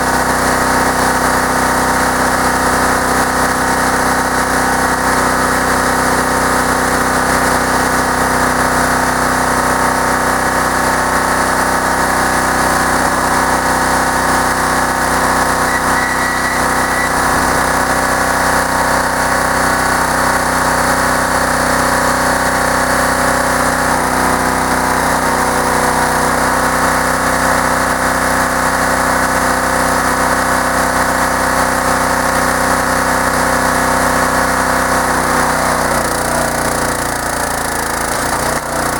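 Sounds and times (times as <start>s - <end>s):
wood splitter engine running: 0.0s - 38.9s.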